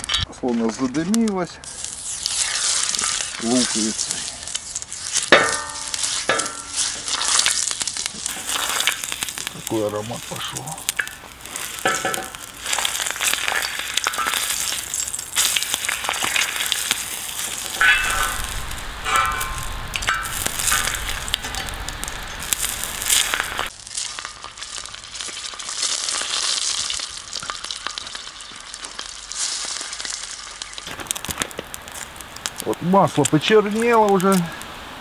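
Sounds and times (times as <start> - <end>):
onion sizzling in hot oil: 1.6 - 35.0.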